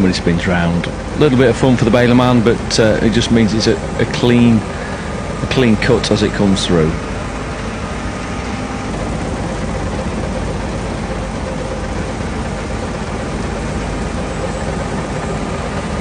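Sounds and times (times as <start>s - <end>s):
combine harvester engine drone: 0.0s - 16.0s.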